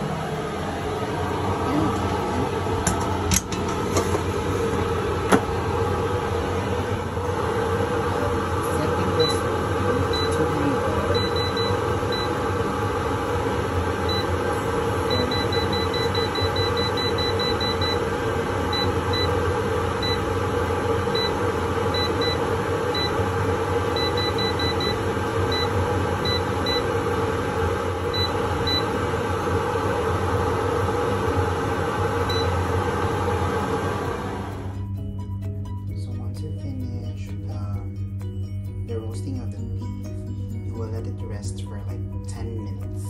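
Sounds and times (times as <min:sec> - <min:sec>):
air fryer fan running: 0:00.0 - 0:43.0.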